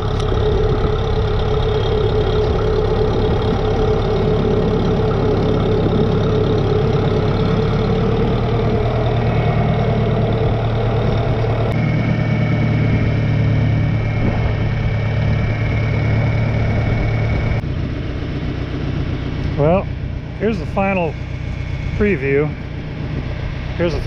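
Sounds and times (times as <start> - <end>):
thin steady whine: 0.0 - 24.0
tractor engine running: 0.0 - 24.0.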